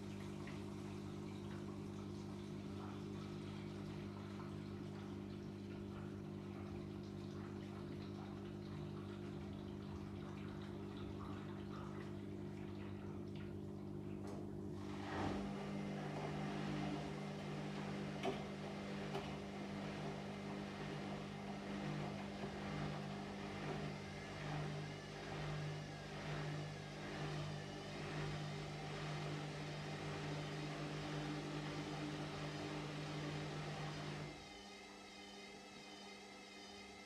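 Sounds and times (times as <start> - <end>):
washing machine running: 0.0 - 37.0.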